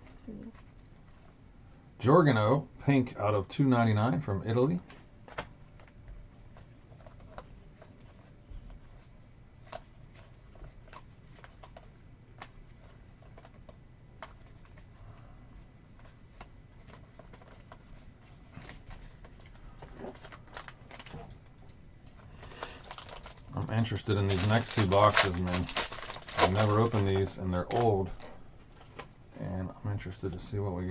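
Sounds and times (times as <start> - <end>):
low room hum: 0.0 - 30.9.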